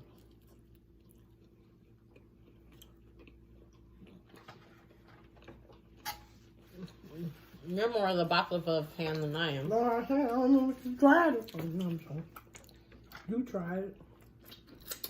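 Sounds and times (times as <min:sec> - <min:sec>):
person chewing: 0:00.0 - 0:07.6, 0:10.3 - 0:15.0.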